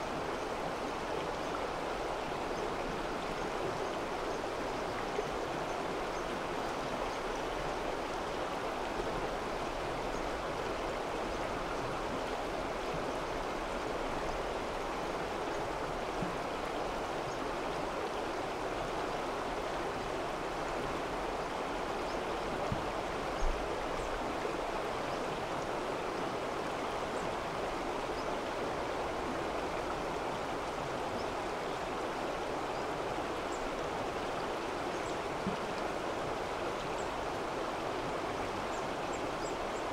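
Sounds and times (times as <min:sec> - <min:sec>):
rushing stream: 0:00.0 - 0:39.9.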